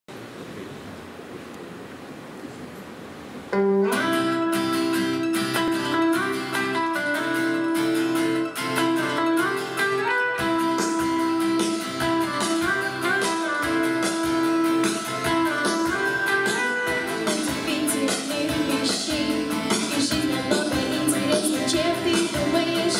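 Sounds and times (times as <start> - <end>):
instrumental backing track: 3.4 - 22.9.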